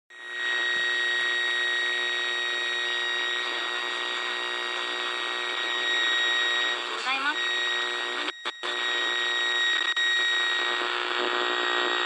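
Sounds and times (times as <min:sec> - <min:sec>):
radio static hiss: 0:00.3 - 0:12.0.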